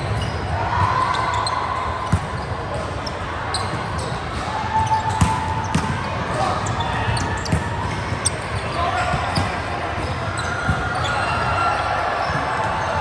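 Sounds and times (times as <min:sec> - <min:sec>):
echoing hall noise: 0:00.0 - 0:13.0.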